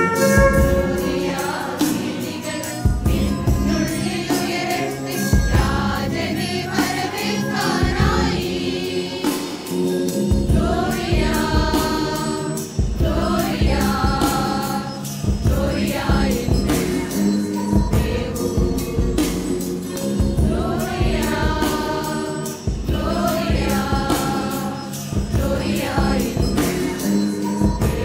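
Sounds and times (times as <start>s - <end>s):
women's choir singing: 0.0s - 9.8s, 10.5s - 28.0s
instrumental accompaniment: 0.0s - 28.0s.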